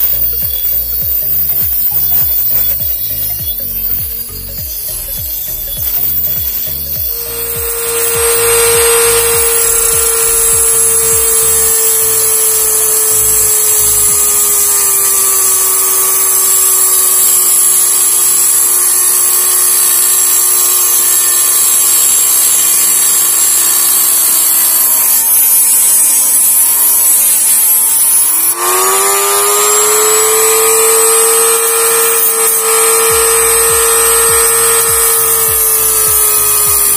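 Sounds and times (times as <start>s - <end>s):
die grinder cutting metal: 0.0s - 36.9s.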